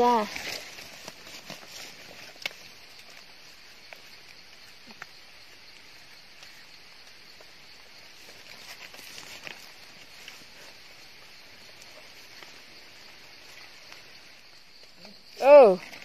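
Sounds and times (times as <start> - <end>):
steady high hiss: 0.0 - 16.0
soft clicks and rustles: 0.2 - 15.2.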